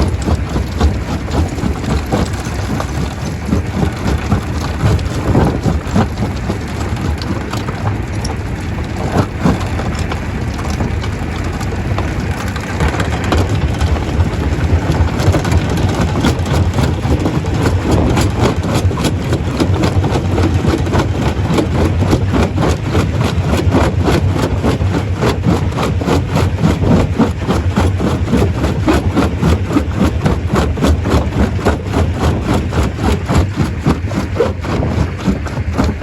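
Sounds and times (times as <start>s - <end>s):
rapid even clatter: 0.0s - 36.0s
stone crusher low drone: 0.0s - 36.0s.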